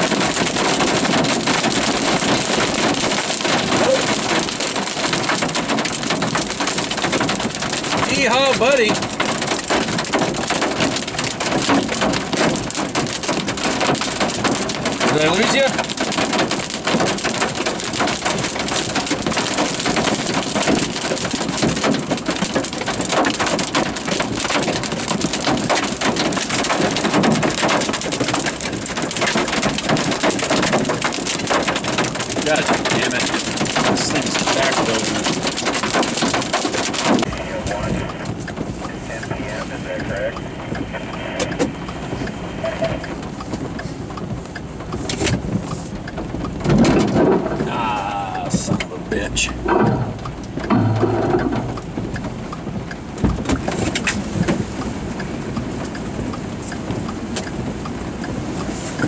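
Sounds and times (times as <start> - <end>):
rain and hail on vehicle roof: 0.0 - 59.0.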